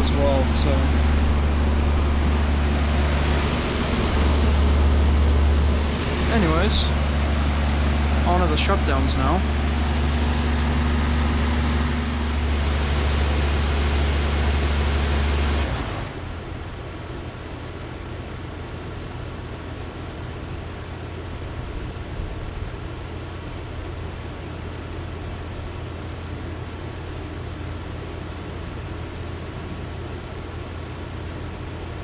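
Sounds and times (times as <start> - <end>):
compressor hum: 0.0 - 32.0
fan air noise: 0.0 - 32.0
quieter steady hum: 0.0 - 32.0.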